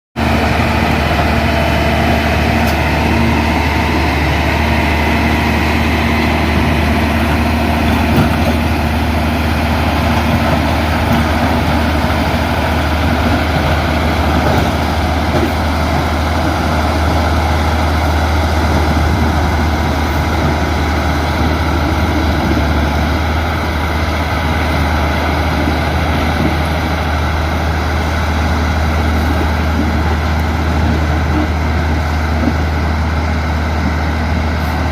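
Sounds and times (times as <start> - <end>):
diesel engine droning: 0.2 - 34.9.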